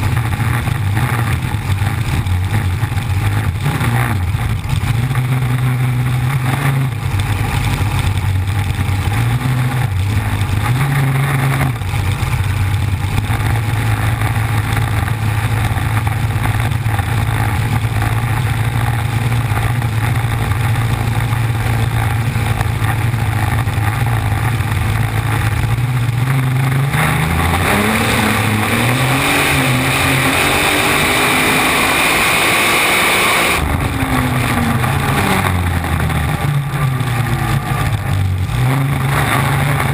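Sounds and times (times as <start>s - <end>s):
race boat engine at high speed: 0.0s - 39.9s.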